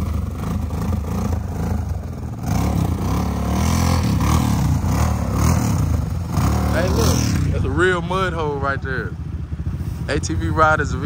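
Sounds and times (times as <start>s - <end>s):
quad engine revving: 0.0s - 11.0s.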